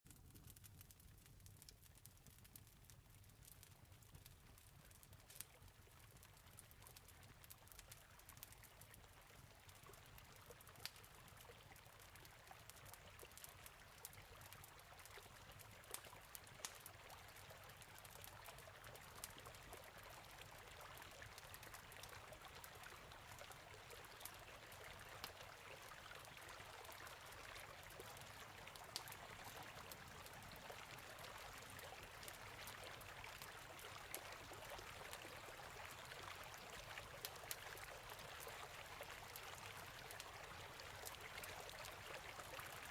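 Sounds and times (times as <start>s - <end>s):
campfire crackling: 0.1s - 42.9s
flowing water: 6.0s - 42.9s.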